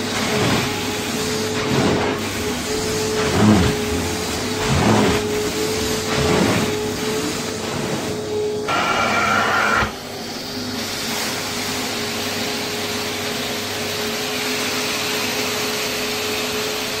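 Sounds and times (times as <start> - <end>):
carpet extractor suction rushing: 0.0 - 17.0.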